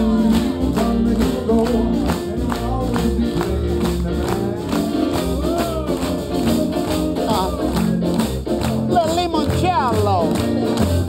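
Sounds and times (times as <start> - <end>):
upbeat band music: 0.0 - 11.0.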